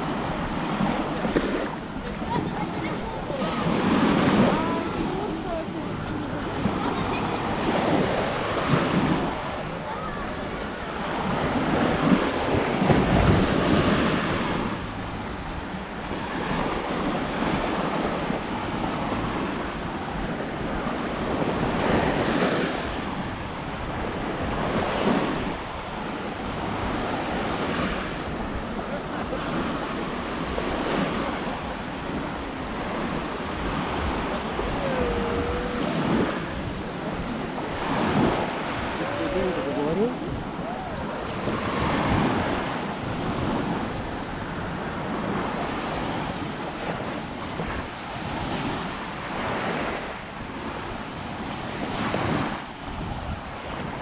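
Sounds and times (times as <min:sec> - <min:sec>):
small waves breaking on shore: 0:00.0 - 0:54.0
wind buffeting microphone: 0:00.0 - 0:54.0.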